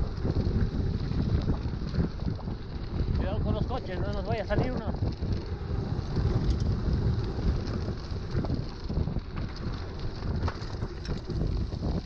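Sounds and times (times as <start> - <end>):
bike rattles and clicks: 0.0 - 12.0
bike tyres rolling on pavement: 0.0 - 12.0
wind buffeting microphone: 0.0 - 12.0.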